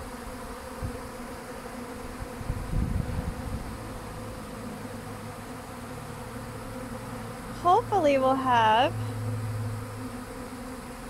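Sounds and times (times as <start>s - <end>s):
bee swarm humming: 0.0s - 11.0s.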